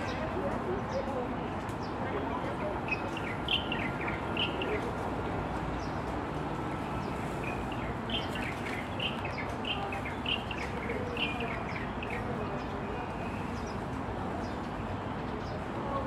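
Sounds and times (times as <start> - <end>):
small birds chirping: 0.8 - 15.7.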